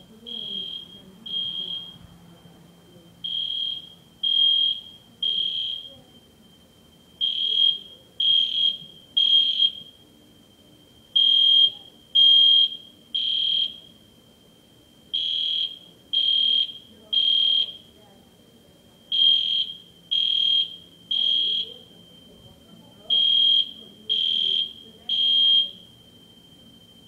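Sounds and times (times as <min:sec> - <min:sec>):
fire alarm high-pitched beeps: 0:00.0 - 0:27.0.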